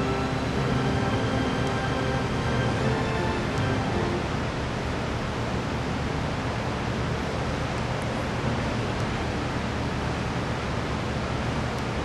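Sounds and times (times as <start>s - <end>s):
low hum: 0.0s - 11.8s
steady hiss: 0.0s - 12.0s.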